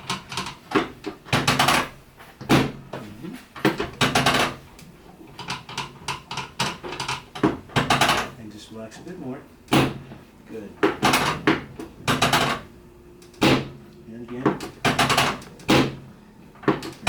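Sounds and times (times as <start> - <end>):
table clacks and knocks: 0.0 - 8.4, 9.7 - 12.7, 13.4 - 17.0.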